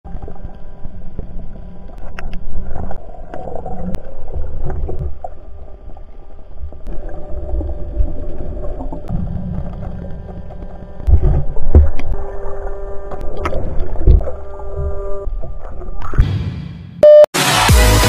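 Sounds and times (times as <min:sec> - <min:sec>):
muffled underwater rumble: 0:00.1 - 0:16.2.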